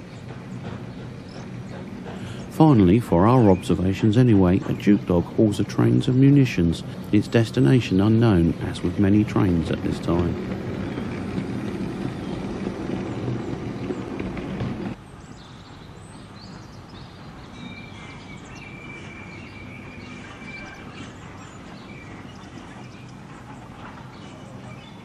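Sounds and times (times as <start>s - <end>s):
birdsong: 0.0s - 25.0s
goods train rumbling past: 0.0s - 25.0s.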